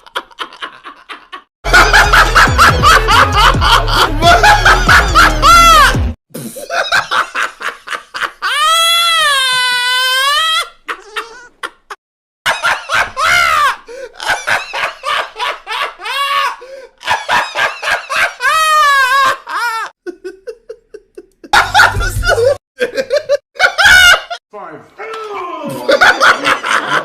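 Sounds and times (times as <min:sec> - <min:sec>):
man laughing hard: 0:00.0 - 0:24.4, 0:25.6 - 0:27.0.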